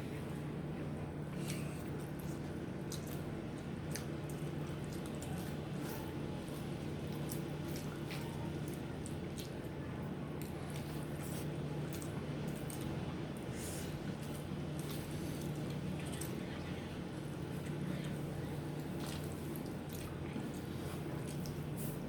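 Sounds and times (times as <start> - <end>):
wet chewing: 1.3 - 22.0.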